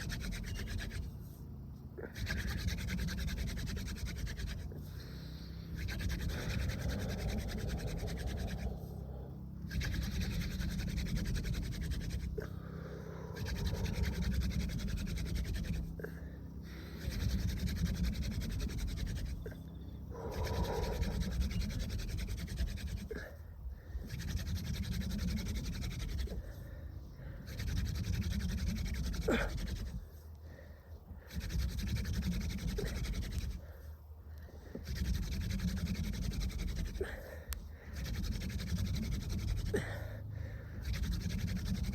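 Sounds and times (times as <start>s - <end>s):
wooden spindle rubbing rasp: 0.0s - 41.9s.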